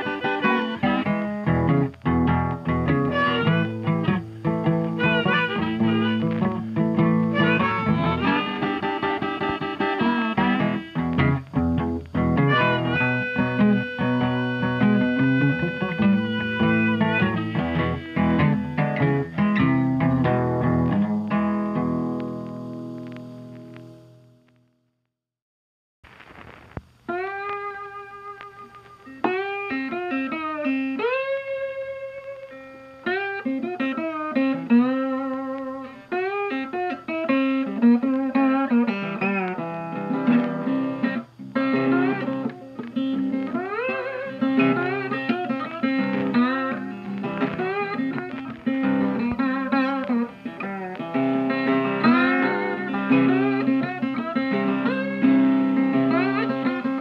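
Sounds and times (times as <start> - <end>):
plucked guitar tune with sliding notes: 0.0 - 24.6, 26.9 - 57.0.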